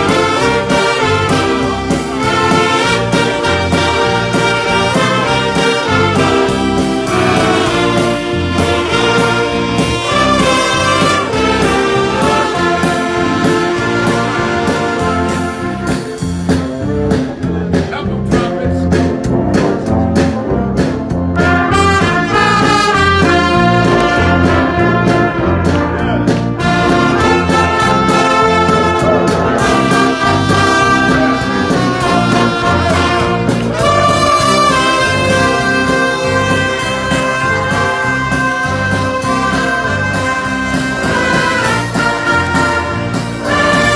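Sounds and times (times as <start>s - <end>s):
brass band playing: 0.0s - 43.9s
drum strokes: 0.0s - 43.9s.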